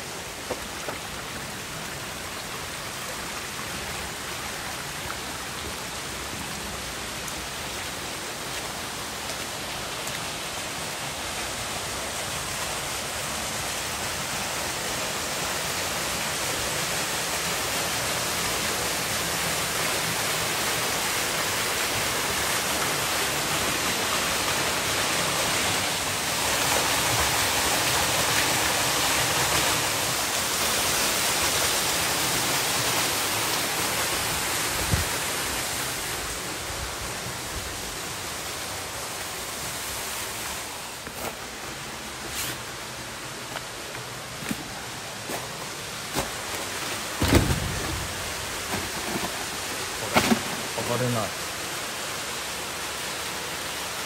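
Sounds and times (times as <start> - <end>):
water pouring down waterfall: 0.0 - 54.0.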